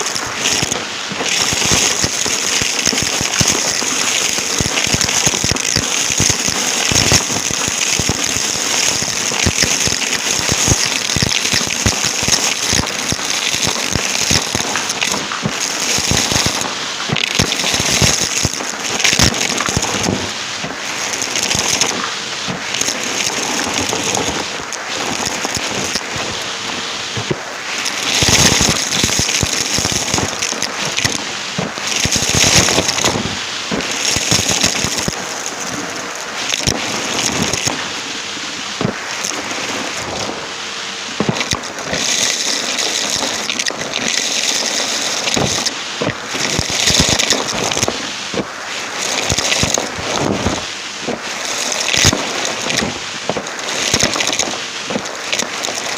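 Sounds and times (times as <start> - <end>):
vacuum cleaner sucking up debris: 0.0 - 26.4, 27.7 - 37.8, 41.2 - 55.9.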